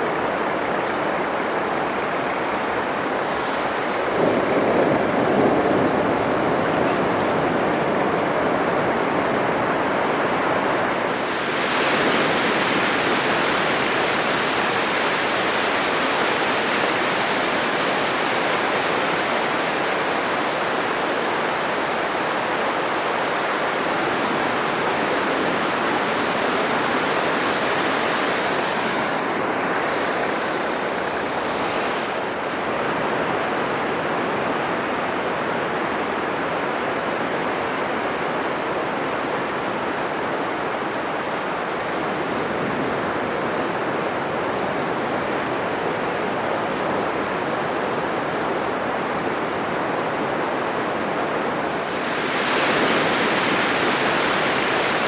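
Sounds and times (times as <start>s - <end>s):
waves breaking: 0.0s - 35.3s, 39.0s - 55.0s.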